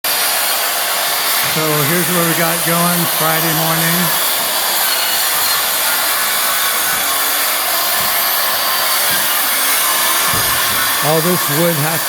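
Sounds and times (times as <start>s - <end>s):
loud rushing hiss: 0.1s - 12.0s.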